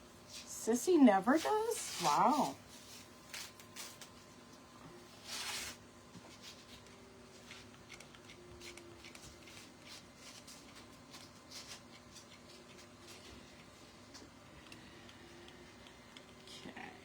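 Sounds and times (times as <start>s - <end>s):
hands rustling craft materials: 0.3s - 4.4s, 5.2s - 16.7s.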